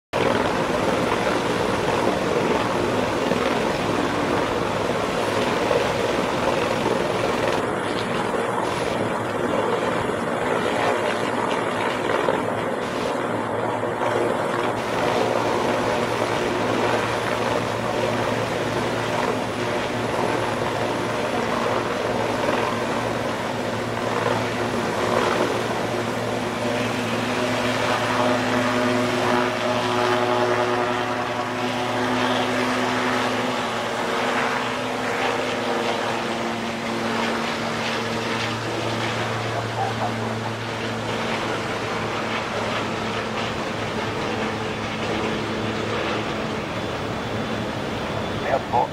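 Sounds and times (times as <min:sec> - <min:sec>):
helicopter rotor and turbine: 0:00.1 - 0:48.9.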